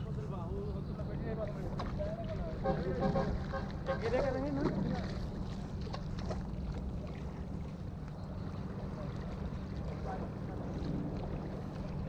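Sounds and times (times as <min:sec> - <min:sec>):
water lapping against seawall: 0:00.0 - 0:12.0.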